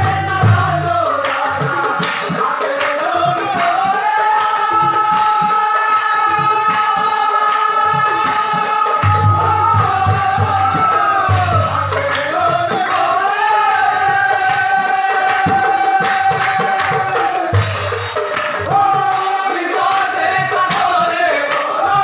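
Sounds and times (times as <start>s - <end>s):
rhythmic percussion: 0.0s - 22.0s.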